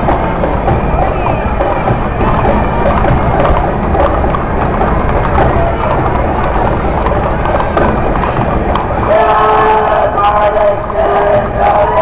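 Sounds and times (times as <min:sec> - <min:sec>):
horse hooves clip-clopping on pavement: 0:00.0 - 0:12.0
music playing: 0:00.0 - 0:12.0.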